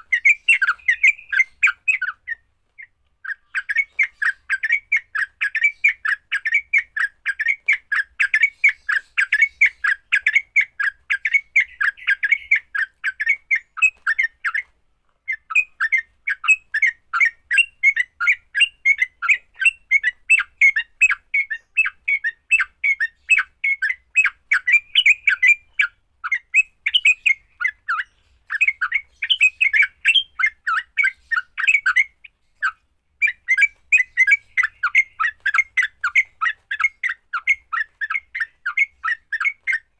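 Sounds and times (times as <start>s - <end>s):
bulbul chattering song: 0.0s - 14.7s, 15.3s - 39.9s.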